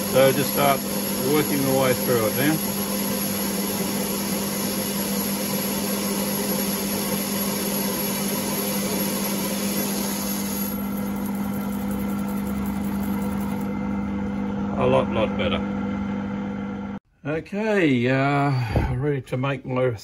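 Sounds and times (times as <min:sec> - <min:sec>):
lathe motor hum: 0:00.0 - 0:17.0.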